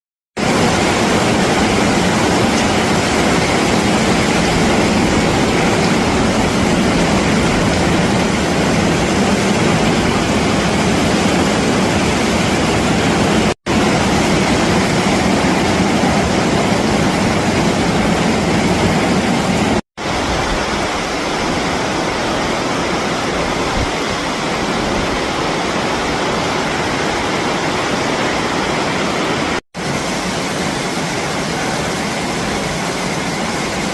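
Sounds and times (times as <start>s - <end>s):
heavy rain pouring: 0.4s - 33.9s.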